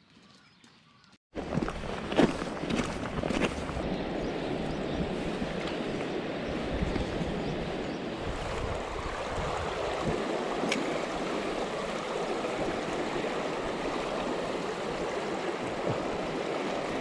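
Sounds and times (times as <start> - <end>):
flowing river water rushing: 2.4 - 17.0.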